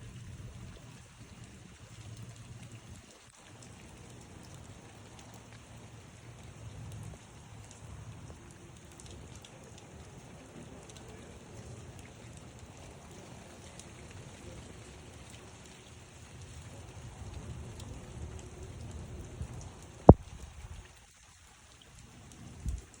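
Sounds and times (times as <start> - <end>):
outdoor weather noise rumble: 0.0 - 23.0.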